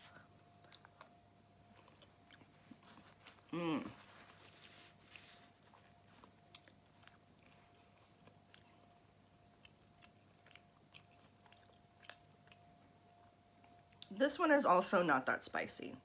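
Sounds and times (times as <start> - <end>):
faint chewing: 0.0 - 14.2.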